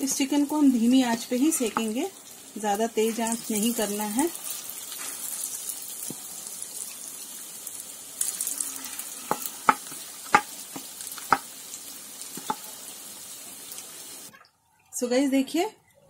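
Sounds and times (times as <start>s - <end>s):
chicken sizzling in oil: 0.0s - 14.3s.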